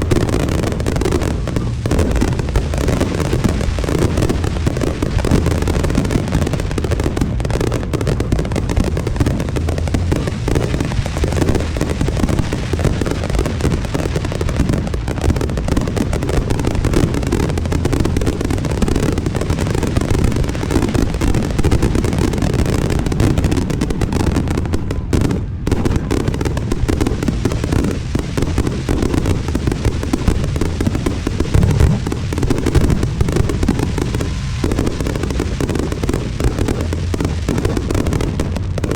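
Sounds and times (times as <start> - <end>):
fireworks bursting and booming: 0.0 - 38.9.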